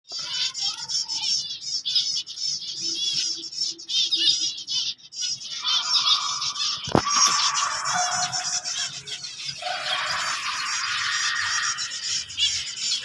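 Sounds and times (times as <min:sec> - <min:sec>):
finches chirping: 0:00.1 - 0:13.0.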